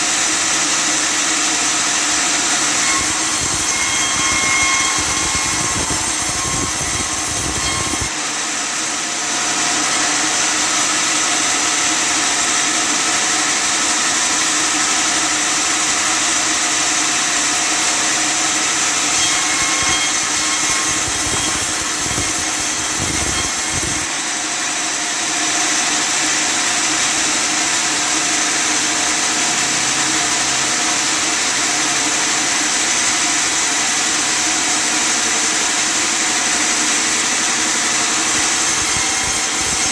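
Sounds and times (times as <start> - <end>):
table saw sawing wood: 0.2 - 13.1, 14.5 - 24.8, 25.5 - 39.9.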